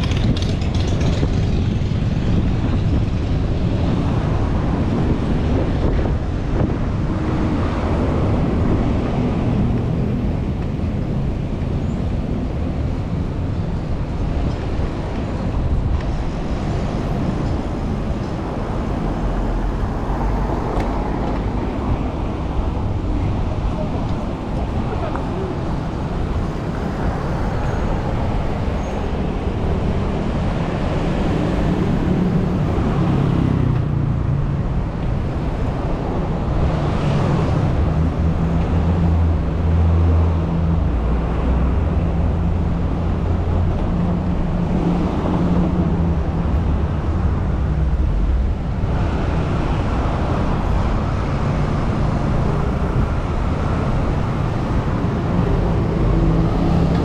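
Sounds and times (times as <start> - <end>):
road noise: 0.0 - 57.0
vehicles passing: 0.0 - 57.0.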